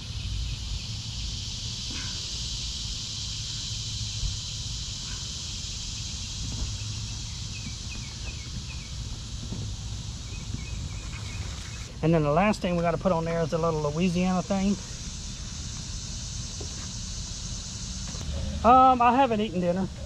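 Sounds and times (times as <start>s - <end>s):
high-pitched insect chorus: 0.0s - 20.0s
low uneven rumble: 0.0s - 20.0s.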